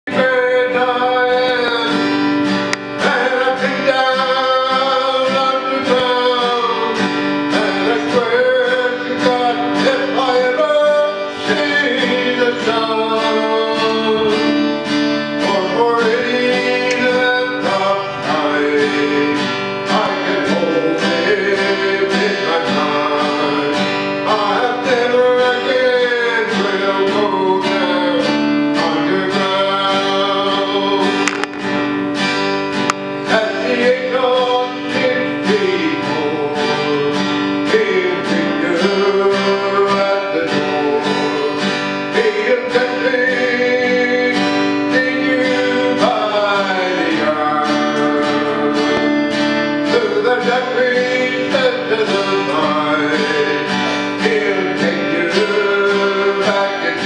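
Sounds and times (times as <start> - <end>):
acoustic guitar strumming: 0.0 - 57.0
man singing: 0.0 - 57.0.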